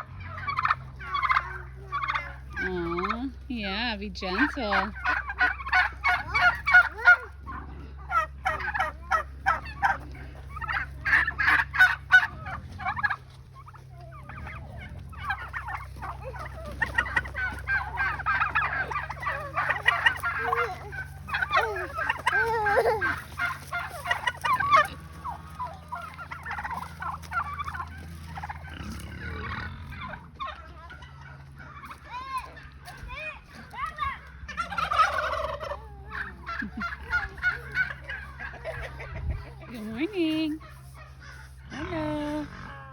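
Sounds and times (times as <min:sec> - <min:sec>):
turkeys gobbling: 0:00.0 - 0:42.9.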